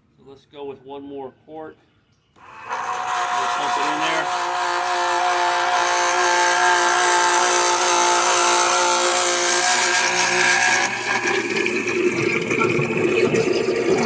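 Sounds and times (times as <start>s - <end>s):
electric pump whining: 2.4s - 14.0s.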